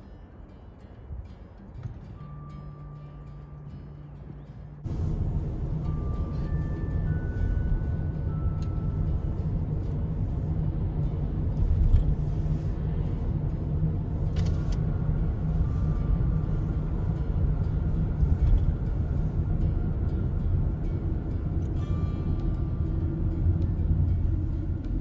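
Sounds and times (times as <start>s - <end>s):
steady low rumble: 3.0s - 25.0s.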